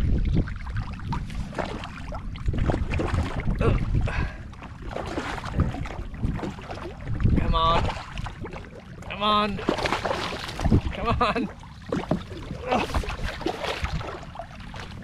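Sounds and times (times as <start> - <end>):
water moving around kayak hull: 0.0 - 15.0
wind buffeting microphone: 0.0 - 15.0.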